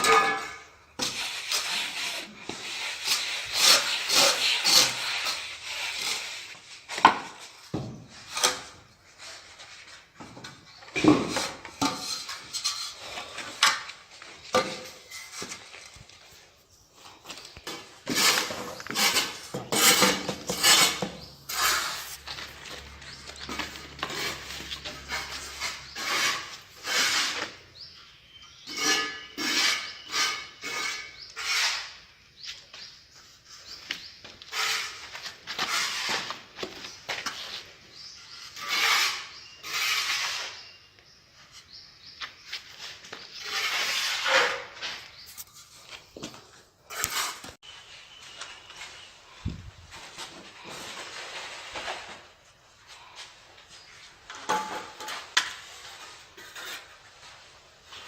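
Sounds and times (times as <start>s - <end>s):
trowel scraping mortar: 0.0s - 16.4s, 17.3s - 27.9s, 28.5s - 32.1s, 33.2s - 40.9s, 41.5s - 47.7s, 53.8s - 58.0s.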